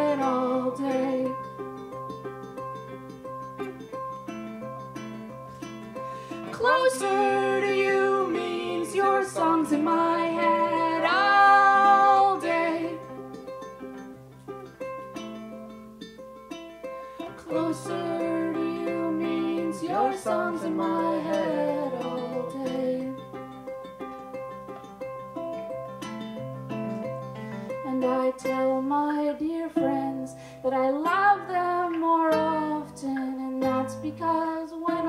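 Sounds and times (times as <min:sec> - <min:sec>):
ukulele and acoustic guitar: 0:00.0 - 0:35.0.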